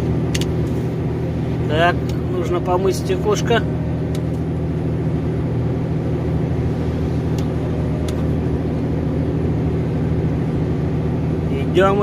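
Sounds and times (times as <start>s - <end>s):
truck diesel engine under load: 0.0s - 12.0s.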